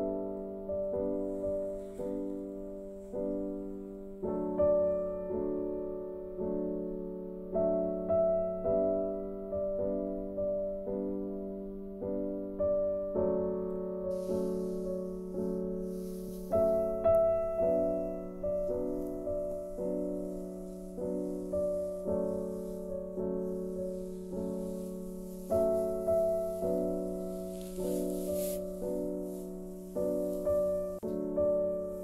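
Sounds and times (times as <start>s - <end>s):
slow piano melody: 0.0s - 32.0s.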